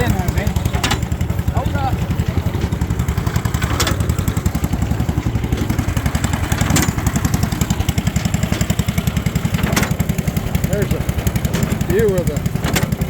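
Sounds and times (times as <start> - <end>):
engine exhaust beat: 0.0 - 13.0
hay press clanking: 0.0 - 13.0.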